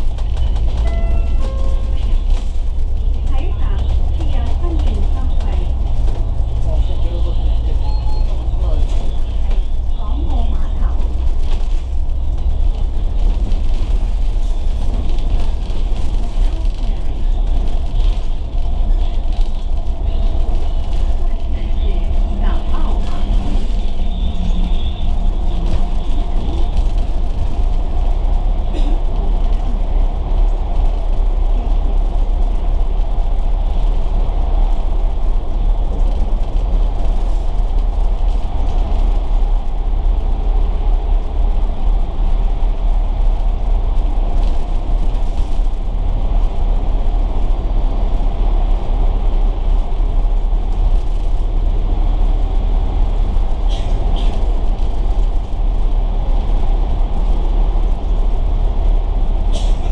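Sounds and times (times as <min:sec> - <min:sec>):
bus diesel engine rumble: 0:00.0 - 0:59.9.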